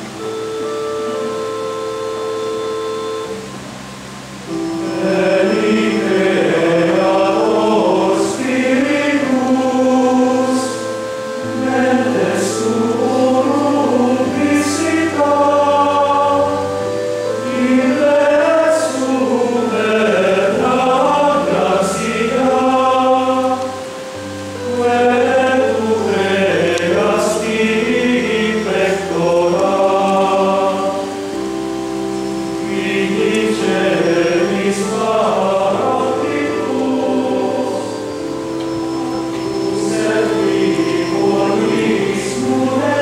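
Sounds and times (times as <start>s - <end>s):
choir singing a hymn: 0.0s - 43.0s
keyboard chords: 0.0s - 43.0s.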